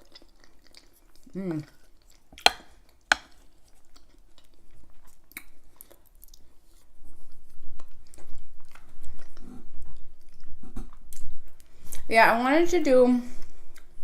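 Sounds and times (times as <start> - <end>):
close chewing and mouth sounds: 0.0 - 12.1, 13.3 - 14.0.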